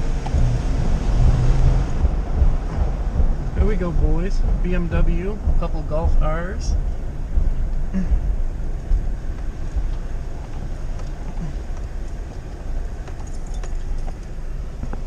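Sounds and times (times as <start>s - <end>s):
engine low rumble from cab: 0.0s - 15.0s.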